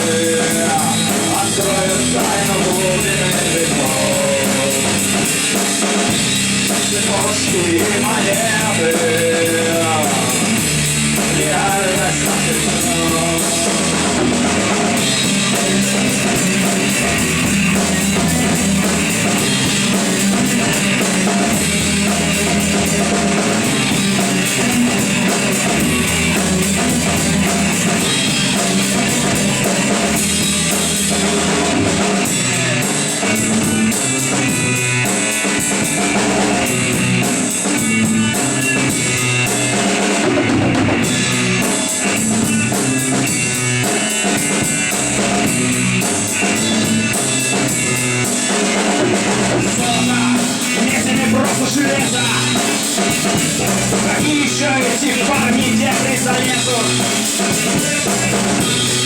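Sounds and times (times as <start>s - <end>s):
bass guitar: 0.0s - 59.0s
drum kit: 0.0s - 59.0s
guitar: 0.0s - 59.0s.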